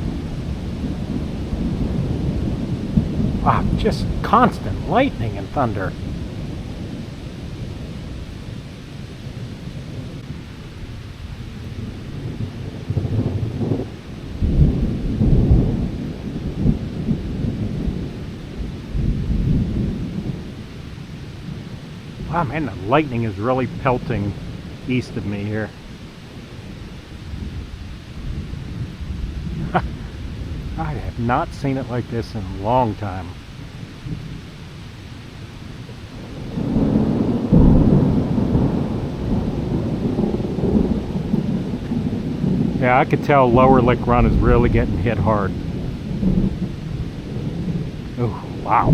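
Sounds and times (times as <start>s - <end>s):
distant rolling thunder: 0.0s - 48.9s.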